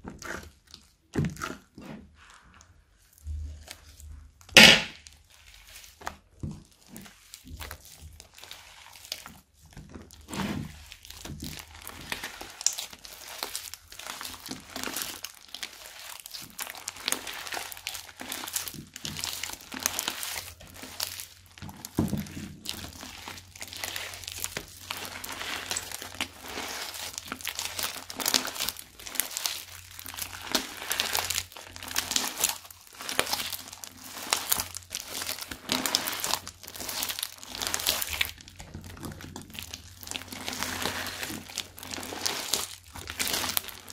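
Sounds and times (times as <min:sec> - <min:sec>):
slime crackling and popping: 0:02.6 - 0:43.9.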